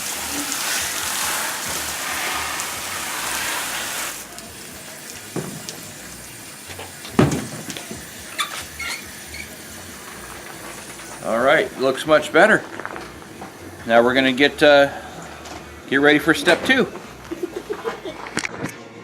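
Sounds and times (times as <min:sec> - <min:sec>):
hose spraying on plastic: 0:00.0 - 0:15.4.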